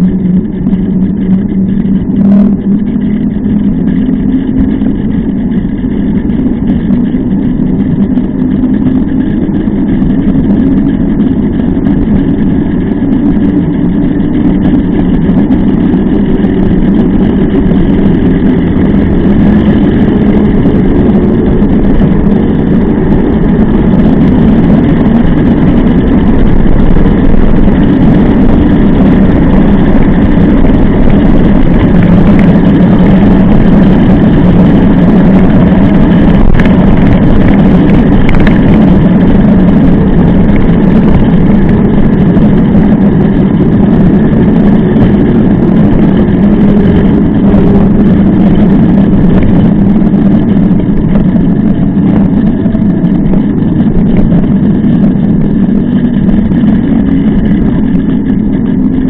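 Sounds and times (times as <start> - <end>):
bike tyre rolling on asphalt: 0.0 - 59.0.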